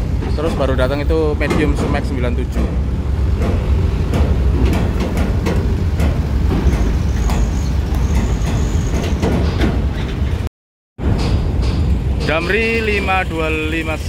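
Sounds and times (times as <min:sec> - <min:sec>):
sharp clanks and knocks: 0:00.0 - 0:13.8
diesel engines rumbling: 0:00.0 - 0:14.0.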